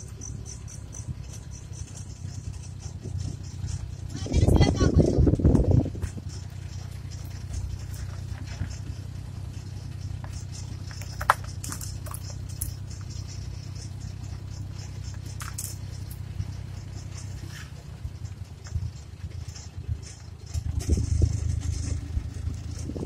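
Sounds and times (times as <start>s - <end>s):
rattles and clicks in cab: 0.0s - 23.0s
vehicle engine and road drone: 0.0s - 23.0s.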